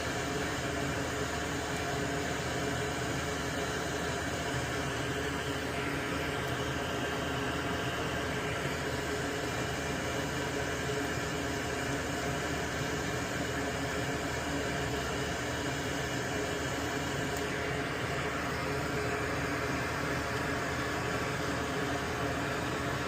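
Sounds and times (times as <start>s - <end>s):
vent fan humming: 0.0s - 23.0s.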